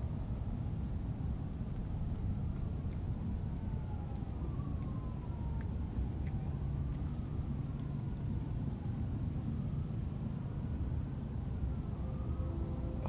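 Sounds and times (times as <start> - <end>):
wind rumble: 0.0 - 13.0
distant siren wailing: 0.1 - 13.0.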